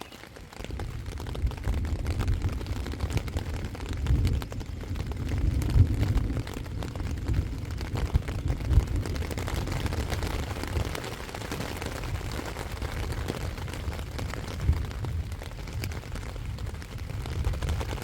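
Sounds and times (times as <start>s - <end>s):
faint rain hiss: 0.0s - 18.0s
wind buffeting microphone: 0.0s - 18.0s.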